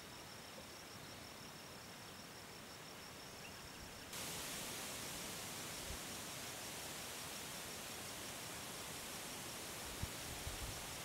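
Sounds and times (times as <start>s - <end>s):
faint steady hiss: 0.0s - 11.0s
high pulsing insect call: 0.0s - 11.0s.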